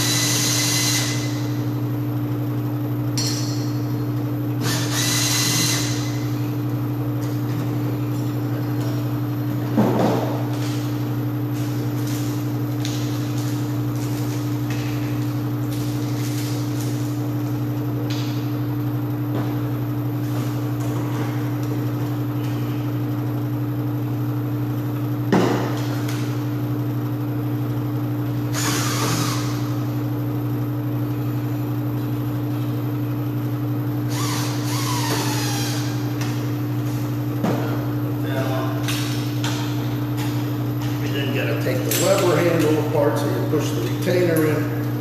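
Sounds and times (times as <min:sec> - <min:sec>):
loud machine hum: 0:00.0 - 0:45.0.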